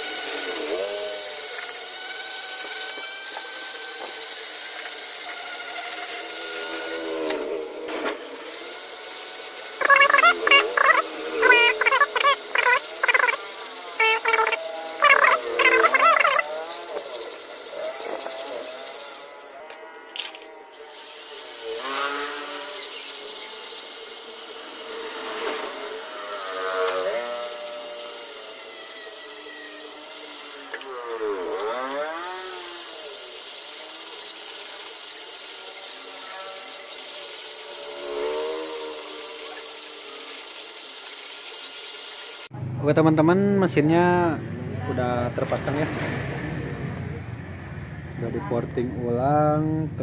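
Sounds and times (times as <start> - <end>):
rotary grinder grinding metal: 0.0 - 42.5.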